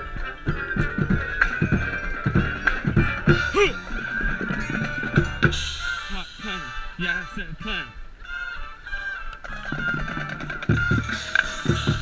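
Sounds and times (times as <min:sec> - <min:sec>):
marching bass drums: 0:00.0 - 0:07.8, 0:09.6 - 0:12.0
marching band playing: 0:00.0 - 0:12.0.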